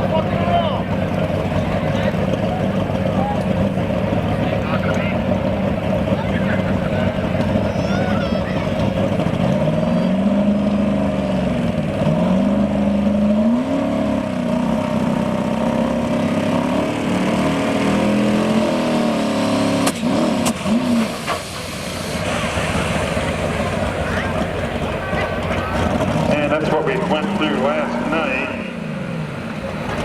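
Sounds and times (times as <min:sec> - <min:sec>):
truck engine under full load: 0:00.0 - 0:30.0.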